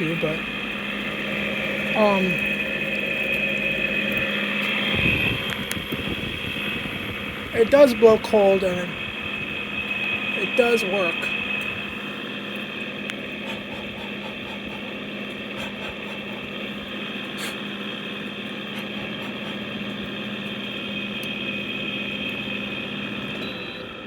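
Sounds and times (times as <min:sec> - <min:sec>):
air conditioner fan humming: 0:00.0 - 0:24.0
high constant whine: 0:00.0 - 0:24.0.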